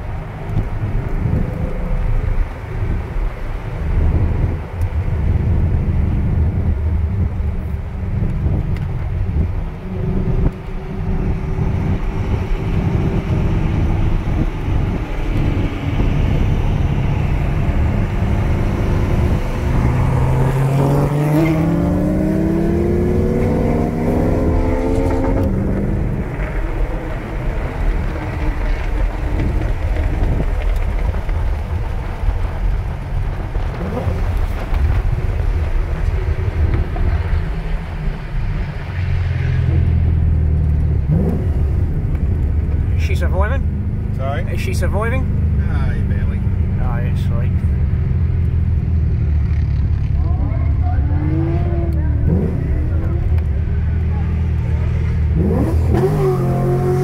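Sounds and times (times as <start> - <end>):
car engine rumbling under load: 0.0 - 57.0.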